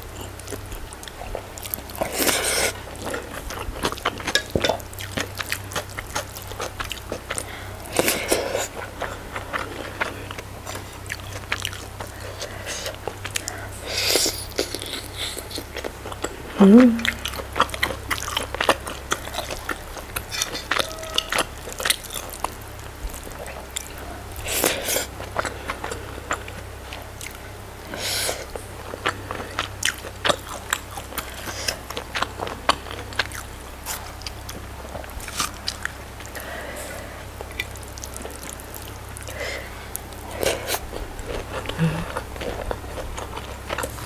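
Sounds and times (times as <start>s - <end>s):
chewing and lip smacking: 0.0s - 44.0s.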